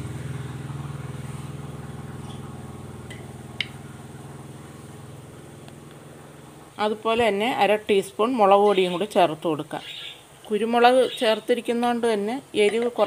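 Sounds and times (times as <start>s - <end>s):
pan boiling hum: 0.0s - 13.0s.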